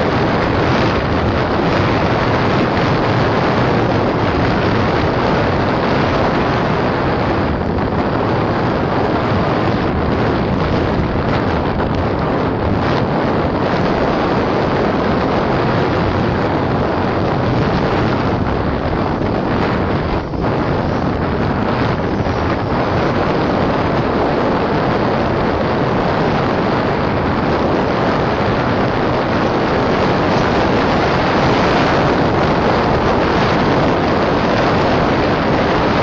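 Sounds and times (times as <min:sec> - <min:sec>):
wind rushing on microphone: 0:00.0 - 0:36.0.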